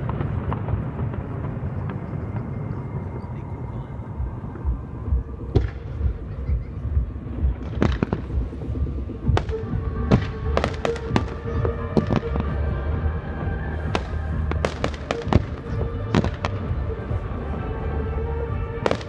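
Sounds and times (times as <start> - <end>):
fireworks bangs and crackles: 0.0 - 19.0
low rumble: 0.0 - 19.0.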